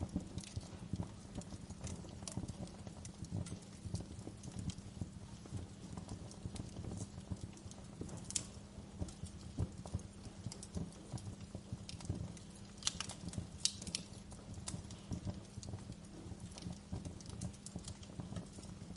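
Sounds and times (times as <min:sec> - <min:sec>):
fire crackling and popping: 0:00.0 - 0:18.9
fire rumbling: 0:00.0 - 0:18.9.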